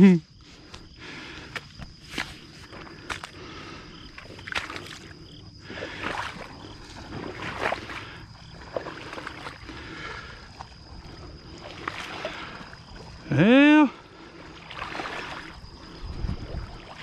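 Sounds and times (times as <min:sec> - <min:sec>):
water sloshing from wading: 0:00.4 - 0:17.0.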